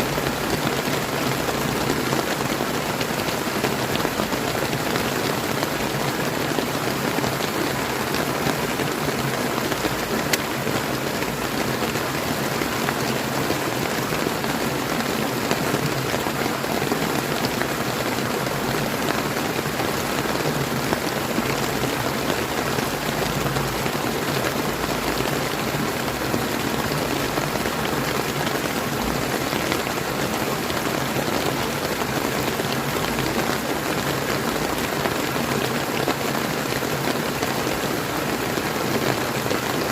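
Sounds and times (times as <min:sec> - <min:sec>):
flowing river: 0:00.0 - 0:39.9
steady rain: 0:00.0 - 0:39.9.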